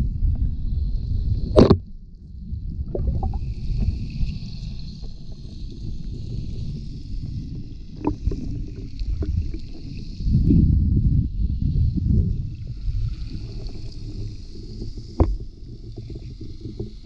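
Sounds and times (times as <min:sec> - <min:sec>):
muffled underwater surf rumble: 0:00.0 - 0:17.0.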